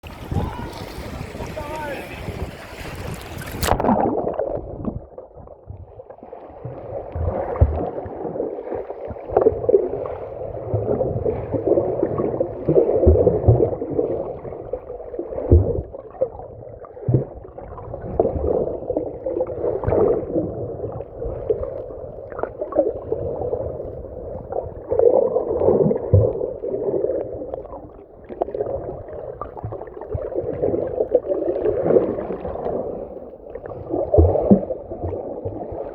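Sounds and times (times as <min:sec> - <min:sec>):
underwater gurgling and sloshing: 0:00.0 - 0:35.9.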